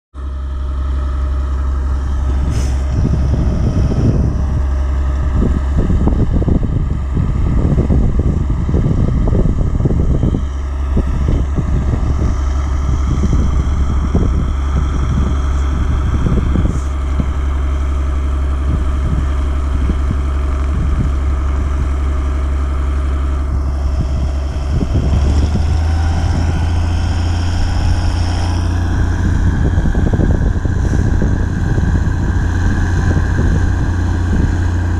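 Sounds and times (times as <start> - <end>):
irregular buffeting: 0.2 - 34.9
propeller engine droning: 0.2 - 34.9.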